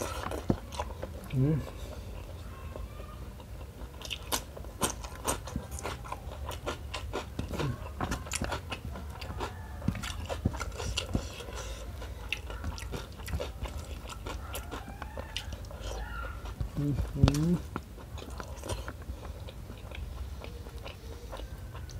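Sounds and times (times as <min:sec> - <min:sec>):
crunchy biting and chewing: 0:00.0 - 0:21.9.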